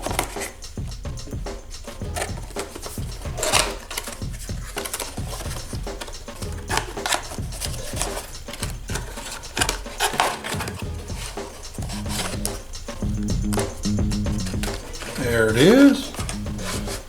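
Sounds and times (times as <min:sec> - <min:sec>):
cardboard box being handled: 0:00.0 - 0:00.6, 0:01.8 - 0:13.6, 0:14.4 - 0:17.0.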